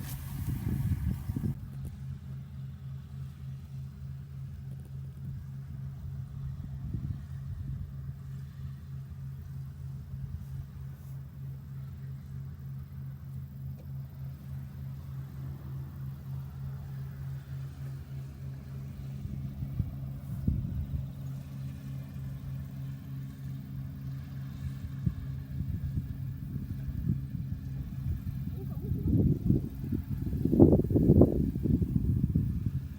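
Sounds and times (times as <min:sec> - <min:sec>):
small engine pulsing hum: 0:00.0 - 0:32.9.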